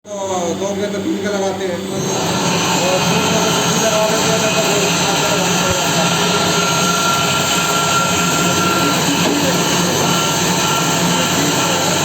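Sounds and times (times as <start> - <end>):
cnc machine running: 0.1 - 12.0.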